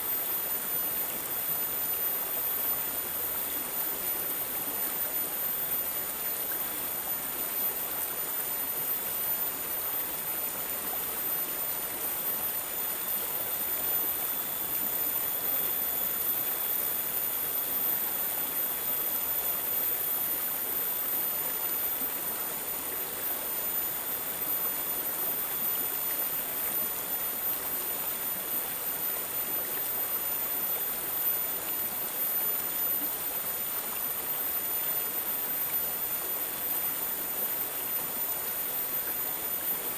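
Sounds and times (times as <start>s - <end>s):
running water babbling: 0.1s - 39.9s.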